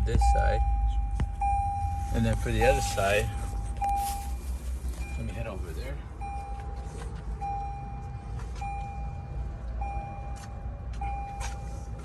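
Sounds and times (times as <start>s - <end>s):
car warning chime beeping: 0.0s - 12.0s.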